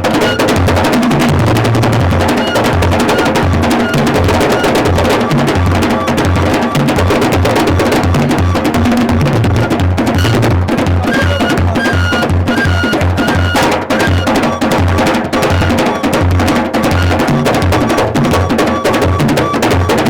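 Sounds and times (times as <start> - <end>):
drums playing a fast rhythm: 0.0 - 20.0.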